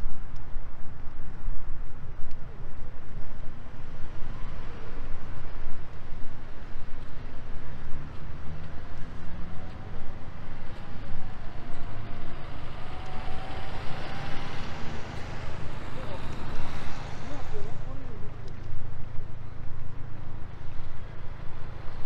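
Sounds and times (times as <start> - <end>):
light traffic: 0.0 - 22.0
wind rumble on microphone: 0.0 - 22.0.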